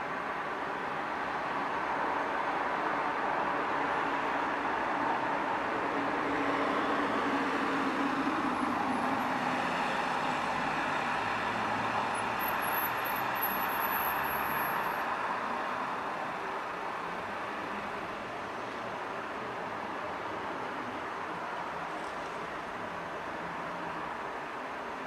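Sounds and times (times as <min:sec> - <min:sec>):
passing vehicles rushing: 0:00.0 - 0:25.0.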